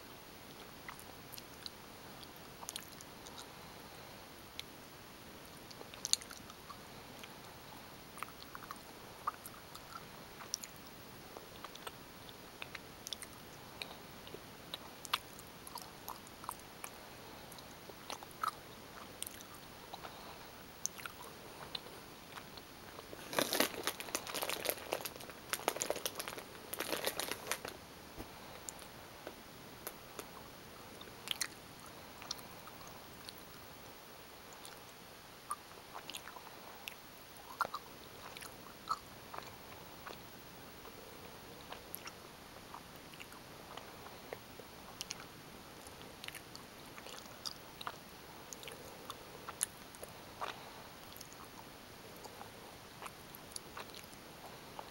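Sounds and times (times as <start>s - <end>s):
chewing gummy bears: 0.5s - 4.7s, 5.4s - 33.9s, 34.5s - 54.9s.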